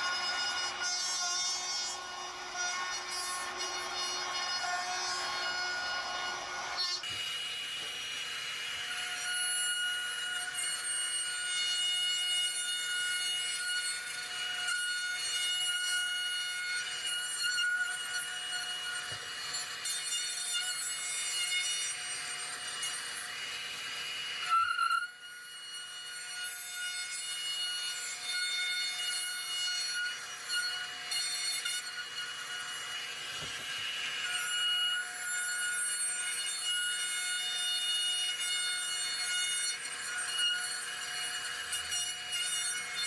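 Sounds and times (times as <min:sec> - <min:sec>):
router cutting wood: 0:00.0 - 0:43.0.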